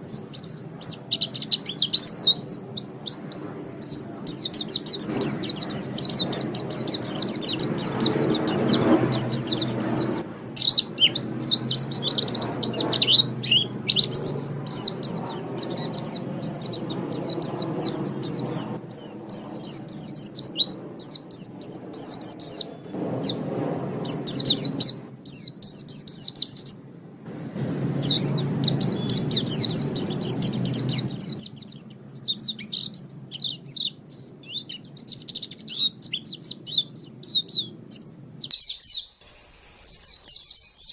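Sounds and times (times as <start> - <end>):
bird high chirps and trills: 0.0 - 40.9.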